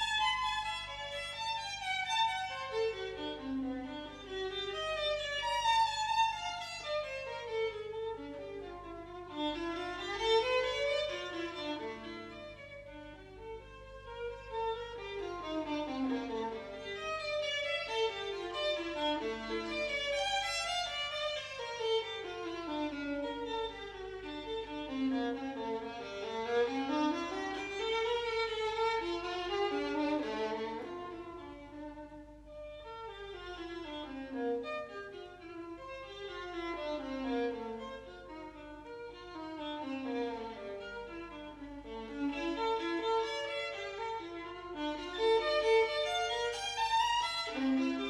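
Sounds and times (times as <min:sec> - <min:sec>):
low mains hum: 0:00.0 - 0:48.0
violin melody: 0:00.0 - 0:48.0.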